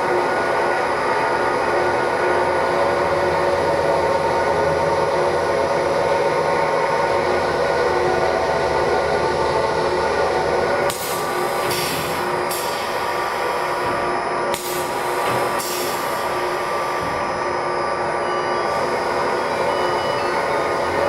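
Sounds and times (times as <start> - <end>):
cutting machine whine: 0.0 - 21.0.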